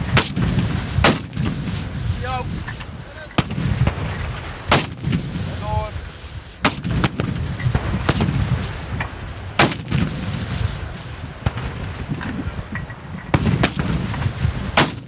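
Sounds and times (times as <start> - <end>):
distant mortar fire rumble: 0.0 - 15.0
mortars firing: 0.0 - 15.0.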